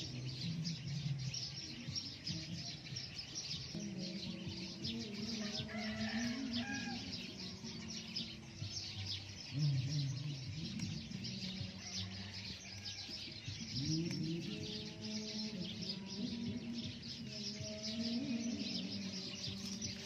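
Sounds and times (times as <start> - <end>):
lower pitched bird calls: 0.0 - 20.0
small birds chirping: 0.0 - 20.0.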